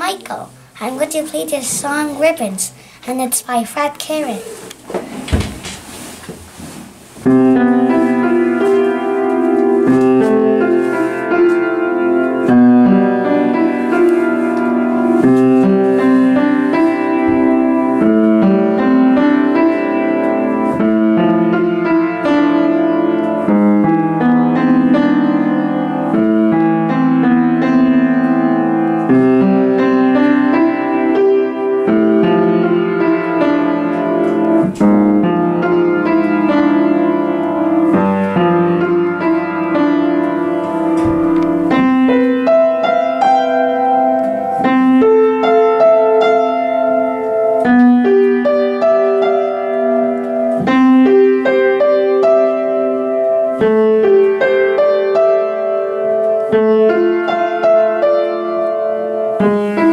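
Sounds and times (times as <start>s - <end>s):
solo piano piece: 5.3s - 59.9s.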